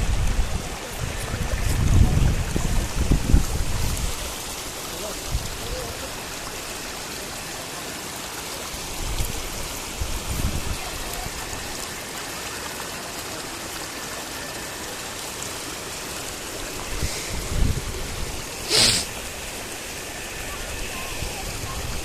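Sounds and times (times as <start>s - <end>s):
waterfall and river rushing: 0.0s - 22.0s.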